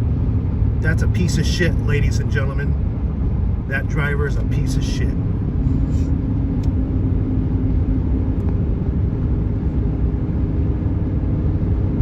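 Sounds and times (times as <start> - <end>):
car road rumble from inside cabin: 0.0 - 12.0.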